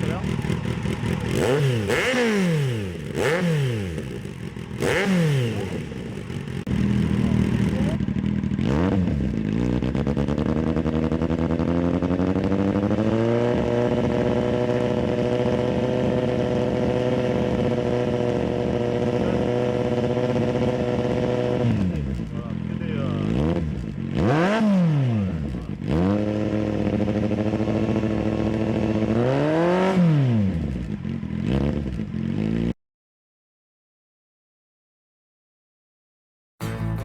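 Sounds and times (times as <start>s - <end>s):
motorcycle engine idling: 0.0s - 24.2s, 25.2s - 29.4s, 30.5s - 32.6s
motorcycle engine revving: 0.0s - 32.8s.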